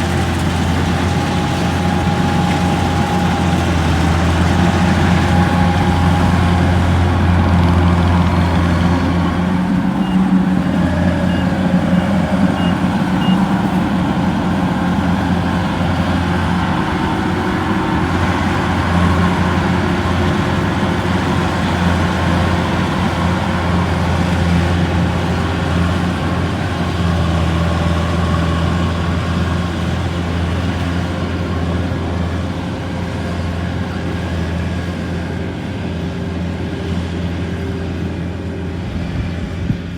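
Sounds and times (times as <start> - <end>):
harvester diesel engine running: 0.0 - 39.9.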